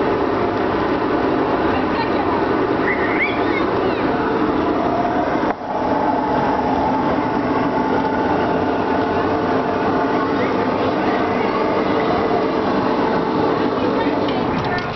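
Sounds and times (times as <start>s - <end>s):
boat motors droning: 0.0s - 14.9s.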